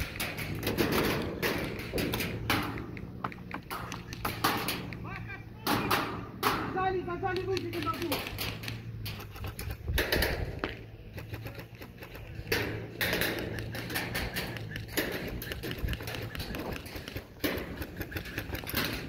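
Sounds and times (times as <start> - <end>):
airsoft guns firing: 0.0 - 19.0.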